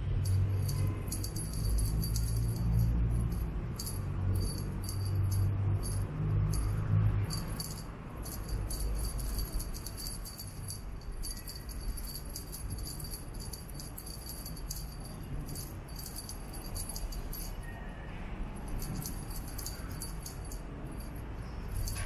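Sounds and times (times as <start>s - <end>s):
small bell jingling: 0.0s - 22.0s.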